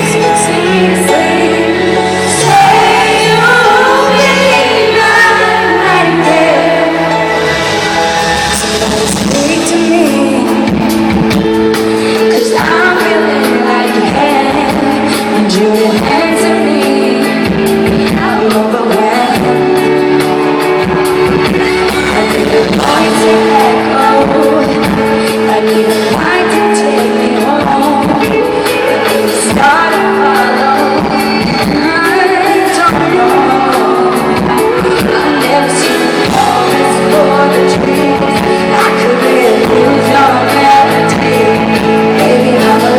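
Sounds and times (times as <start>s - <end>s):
band playing: 0.0s - 42.9s
woman singing a pop ballad: 0.0s - 42.9s.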